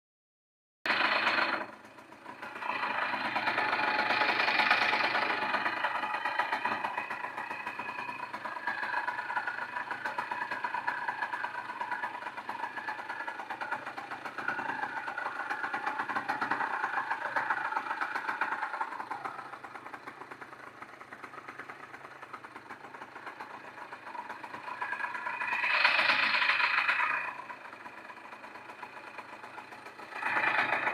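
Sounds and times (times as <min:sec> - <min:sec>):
two-stroke engine running: 0:00.9 - 0:30.9.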